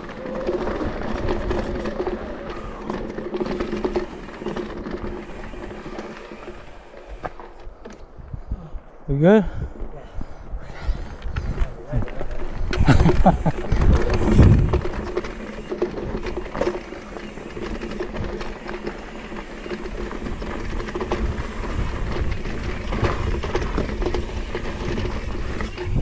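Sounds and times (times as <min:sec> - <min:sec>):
bike rattling over bumps: 0:00.0 - 0:08.4, 0:11.3 - 0:26.0
bike tyre noise on dirt: 0:00.0 - 0:09.0, 0:09.6 - 0:26.0.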